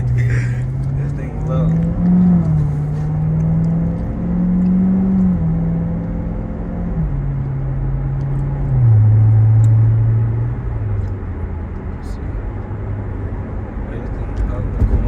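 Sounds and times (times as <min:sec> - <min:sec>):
car engine upshifting: 0:00.0 - 0:15.0.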